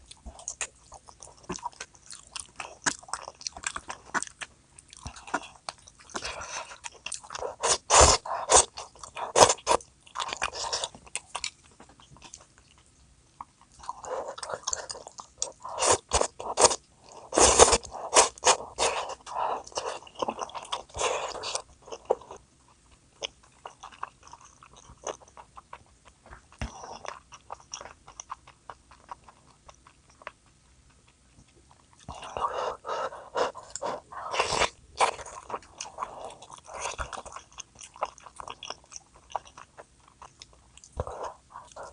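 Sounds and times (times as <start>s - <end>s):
chewing crunchy food: 0.0s - 41.9s.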